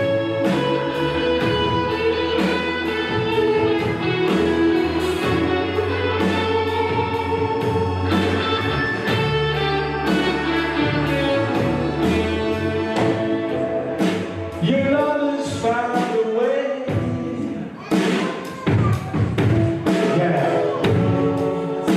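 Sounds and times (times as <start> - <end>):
bass: 0.0 - 17.8
guitar: 0.0 - 21.9
regular drum beat: 0.0 - 21.9.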